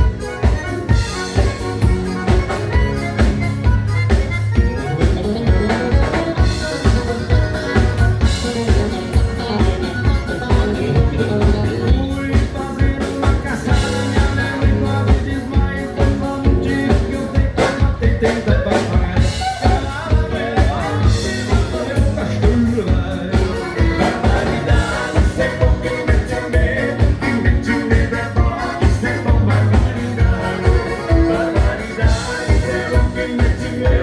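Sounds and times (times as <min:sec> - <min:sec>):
live dance band with drums and bass: 0:00.0 - 0:34.0
person singing: 0:04.1 - 0:34.0.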